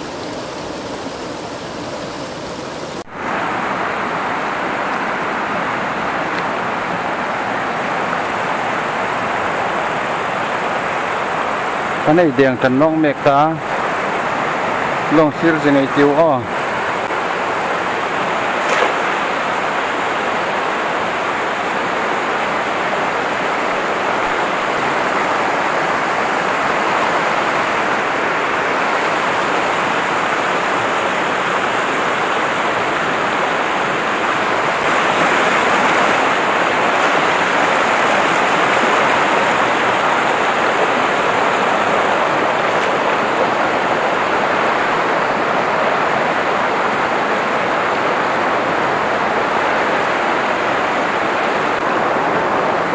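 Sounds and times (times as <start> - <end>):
river rushing over rocks: 0.0 - 52.9.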